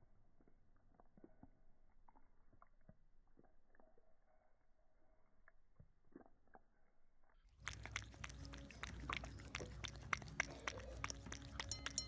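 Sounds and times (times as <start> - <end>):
cat lapping milk: 0.4 - 12.0.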